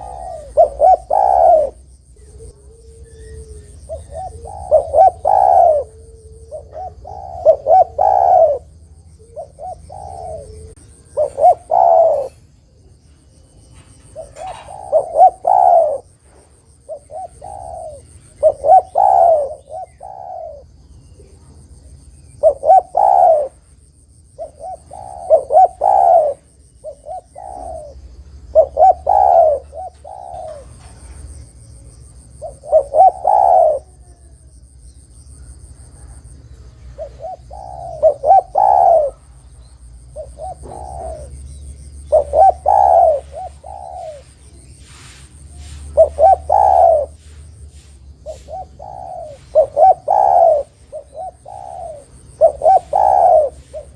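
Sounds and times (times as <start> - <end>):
dove cooing: 0.0 - 23.7, 24.3 - 34.6, 35.4 - 53.9.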